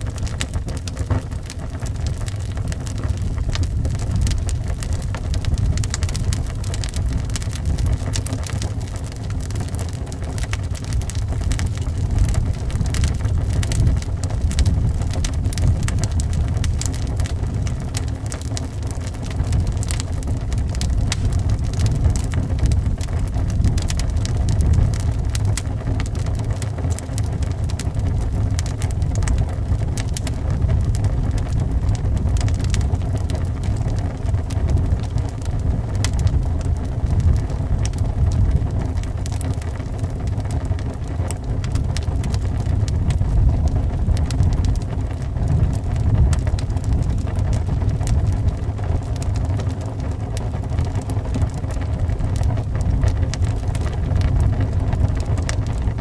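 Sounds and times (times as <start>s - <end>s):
low rumble of wind: 0.0s - 56.0s
wood fire crackling and popping: 0.0s - 56.0s.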